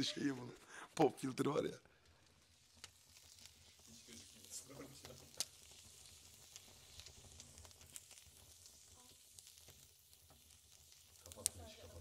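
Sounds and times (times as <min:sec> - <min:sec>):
fire crackling pops: 0:00.0 - 0:12.0
fire hissing: 0:00.0 - 0:12.0.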